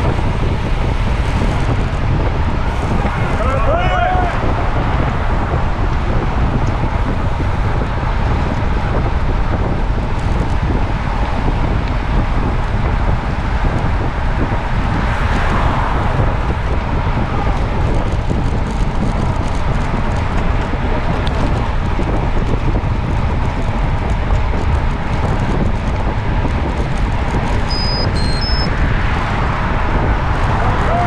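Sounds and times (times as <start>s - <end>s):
road and traffic rumble: 0.0s - 31.0s
wind noise on microphone: 0.0s - 31.0s.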